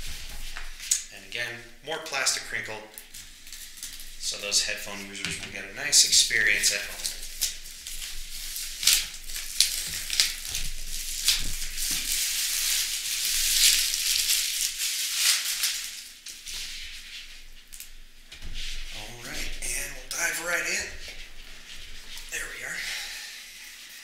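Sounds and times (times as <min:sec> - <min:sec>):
plastic wrap crinkling: 0:02.9 - 0:05.1, 0:05.7 - 0:24.0.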